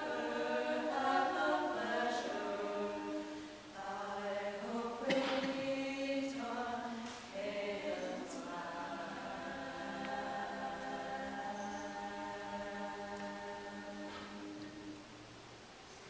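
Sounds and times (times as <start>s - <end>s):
women singing in harmony: 0.0s - 15.1s.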